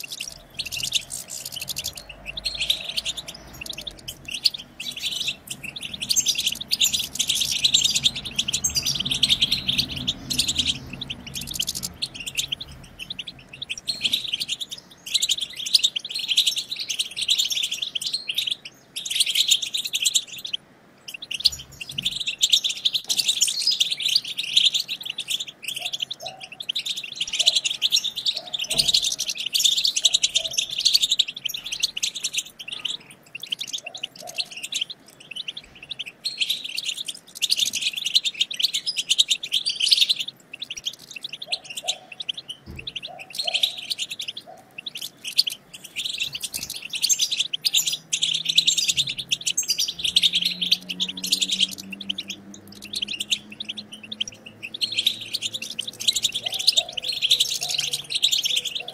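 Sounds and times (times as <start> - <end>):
finches chattering and twittering: 0.0 - 58.9.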